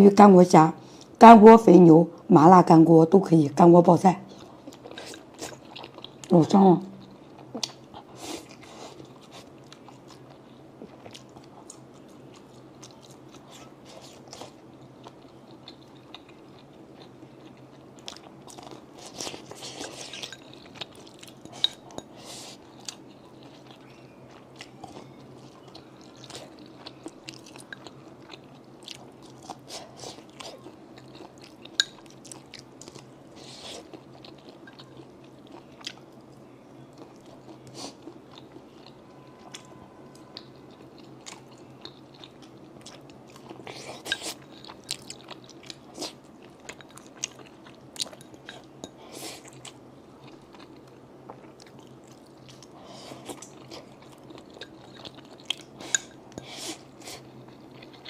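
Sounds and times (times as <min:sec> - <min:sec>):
faint low hum: 0:00.0 - 0:58.0
person chewing and crunching food: 0:04.3 - 0:58.0.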